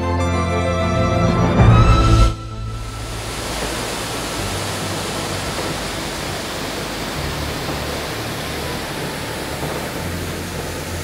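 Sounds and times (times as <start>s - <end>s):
waterfall rushing: 2.0s - 11.0s.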